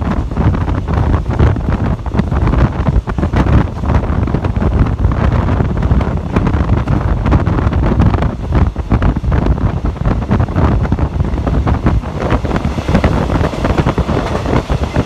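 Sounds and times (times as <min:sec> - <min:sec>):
train rumbling along track: 0:00.0 - 0:15.0
wind buffeting microphone: 0:00.0 - 0:15.0.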